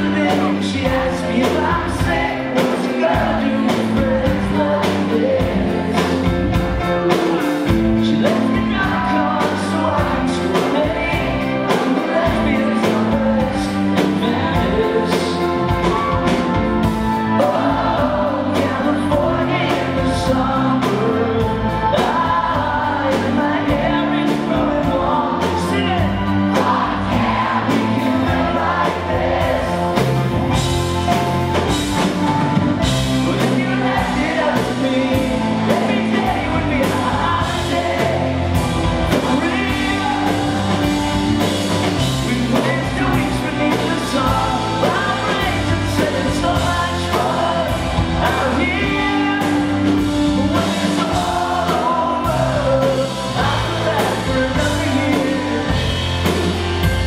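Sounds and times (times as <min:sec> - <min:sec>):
live rock band playing: 0:00.0 - 0:57.0
man singing lead: 0:00.0 - 0:57.0
steady drum beat: 0:00.0 - 0:57.0.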